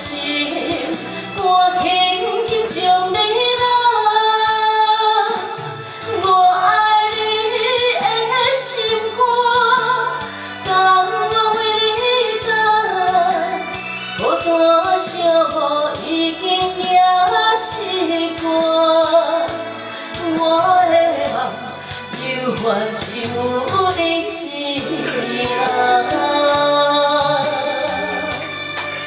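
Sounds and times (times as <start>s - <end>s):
woman singing into a microphone: 0.0s - 28.7s
karaoke backing track: 0.0s - 29.0s.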